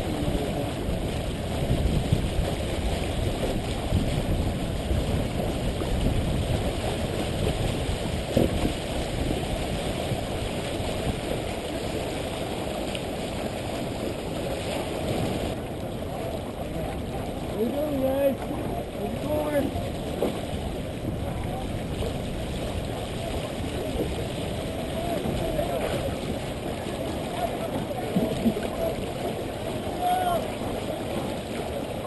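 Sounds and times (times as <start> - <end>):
water splashing along hull: 0.0 - 32.0
wind on microphone: 0.0 - 32.0.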